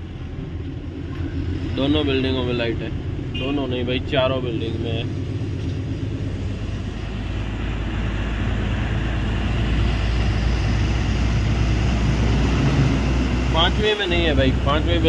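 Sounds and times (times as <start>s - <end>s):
road noise: 0.0s - 15.0s
truck diesel engine drone: 0.0s - 15.0s.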